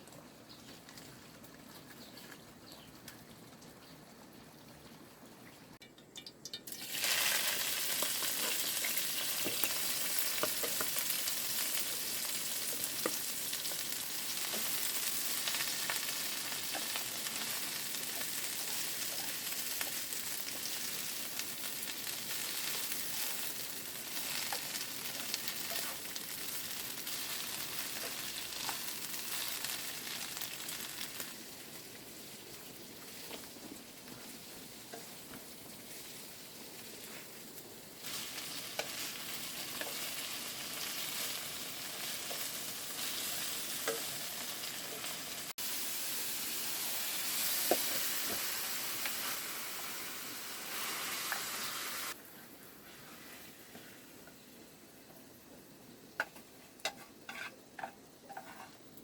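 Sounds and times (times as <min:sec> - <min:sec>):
food sizzling in hot oil: 0:05.9 - 0:59.0.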